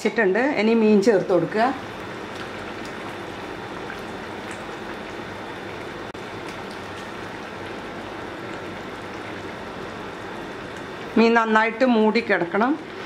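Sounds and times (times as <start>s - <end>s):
curry bubbling in a pot: 0.8s - 13.0s.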